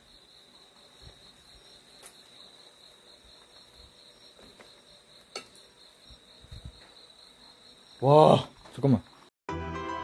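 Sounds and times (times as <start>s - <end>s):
crickets chirping: 0.0s - 9.3s.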